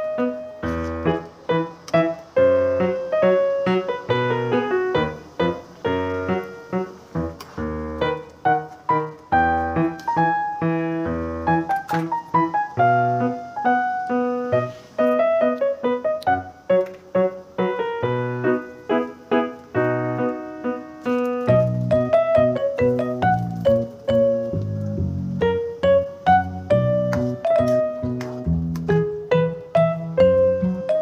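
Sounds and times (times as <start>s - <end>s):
background piano music: 0.0s - 31.0s.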